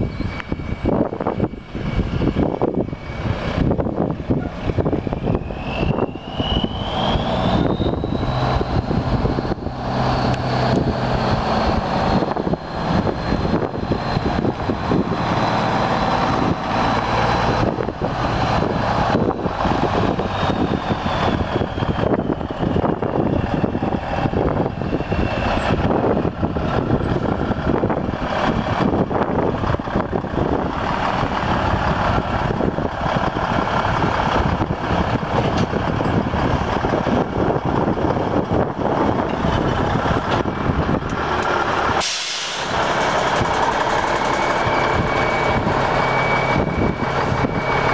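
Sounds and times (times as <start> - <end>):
truck engine running: 0.0 - 47.9.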